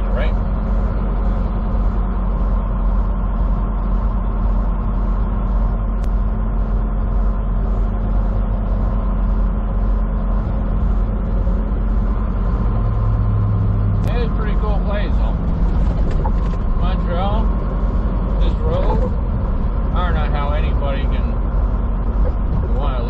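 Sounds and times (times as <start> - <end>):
truck engine and road drone: 0.0 - 23.0.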